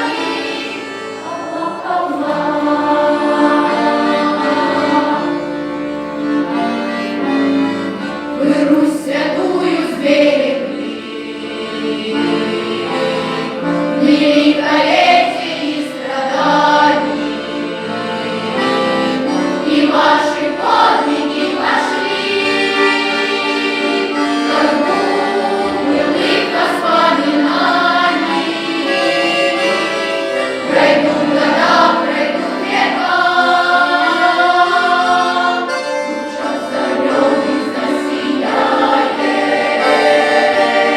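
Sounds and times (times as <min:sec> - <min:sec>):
choir singing in harmony: 0:00.0 - 0:40.9
instrumental backing: 0:00.0 - 0:40.9.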